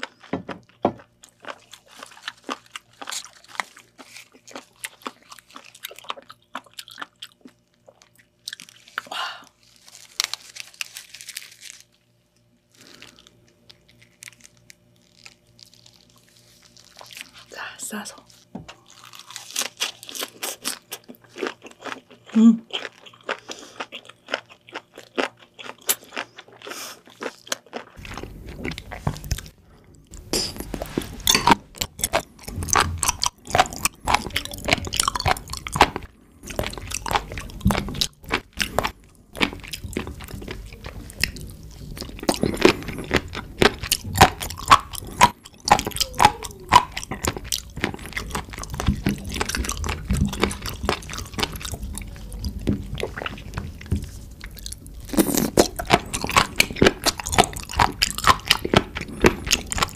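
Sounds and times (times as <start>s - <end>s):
close chewing: 0.0s - 11.9s, 12.7s - 59.9s.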